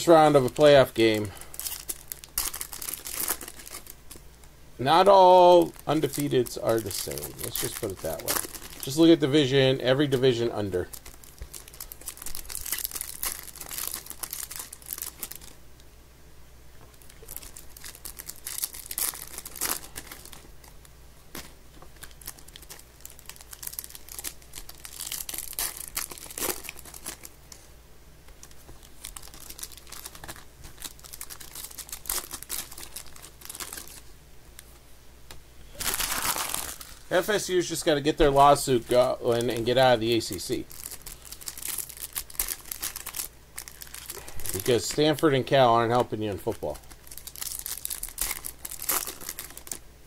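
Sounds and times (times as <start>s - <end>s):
foil wrappers crinkling and tearing: 0.0s - 4.2s, 4.9s - 15.6s, 16.9s - 27.7s, 28.3s - 34.1s, 35.7s - 49.8s.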